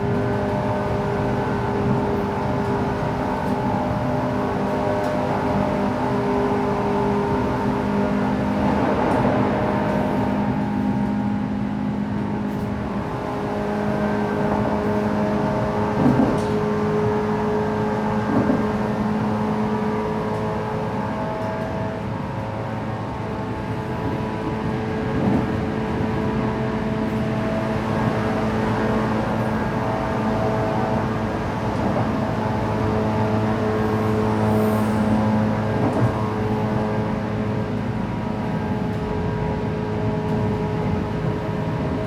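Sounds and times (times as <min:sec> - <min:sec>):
train motor hum and whine: 0:00.0 - 0:42.0
wheels rumbling on rail: 0:00.0 - 0:42.0.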